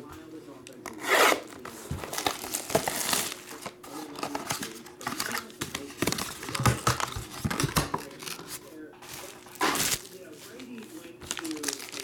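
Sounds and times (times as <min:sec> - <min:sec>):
cardboard and packaging rustling: 0:00.8 - 0:12.0.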